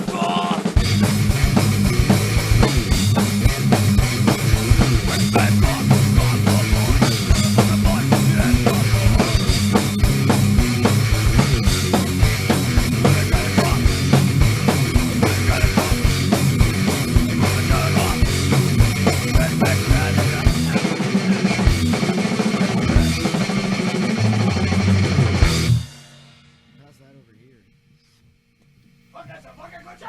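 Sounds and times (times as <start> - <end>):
punk rock band playing: 0.0 - 26.8.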